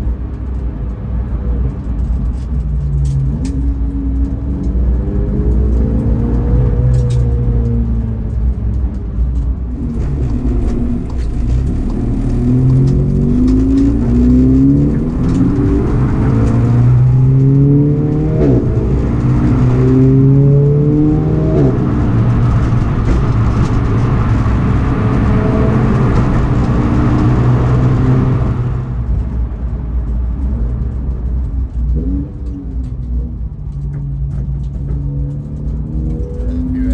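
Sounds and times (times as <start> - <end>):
race car engine accelerating: 1.8 - 29.3, 30.4 - 36.9.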